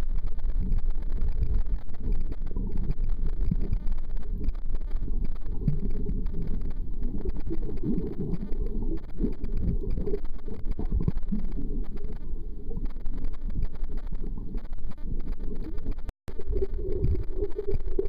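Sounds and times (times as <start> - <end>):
muffled underwater rumble: 0.0 - 18.0.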